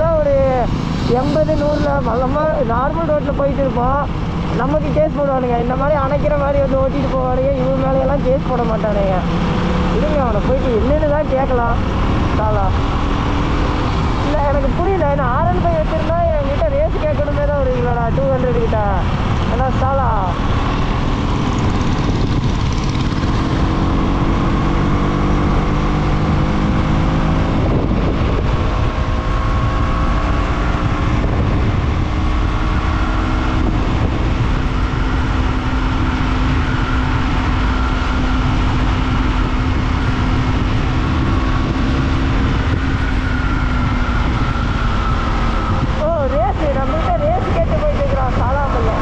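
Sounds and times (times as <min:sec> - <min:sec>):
motorcycle engine accelerating: 0:00.0 - 0:49.0
wind rumble on microphone: 0:00.0 - 0:49.0.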